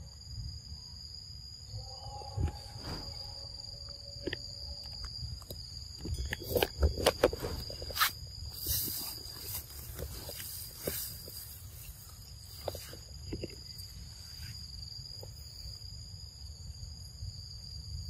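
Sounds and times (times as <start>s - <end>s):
high-pitched insect drone: 0.0s - 18.0s.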